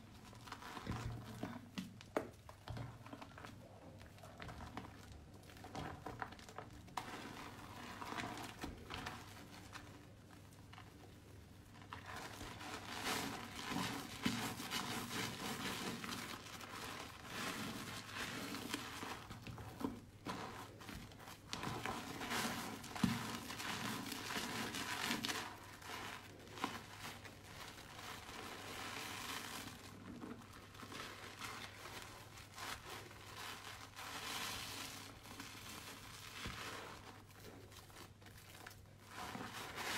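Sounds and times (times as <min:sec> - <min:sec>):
wet soap squished by fingers: 0:00.0 - 0:39.9.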